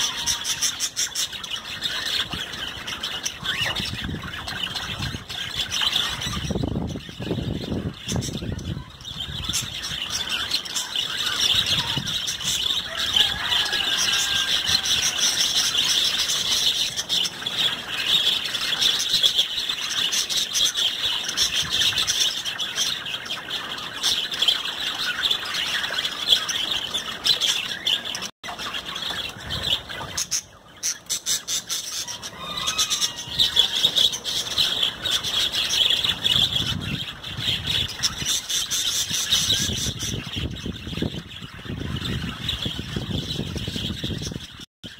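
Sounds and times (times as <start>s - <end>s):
budgerigars chattering and warbling: 0.0s - 44.9s.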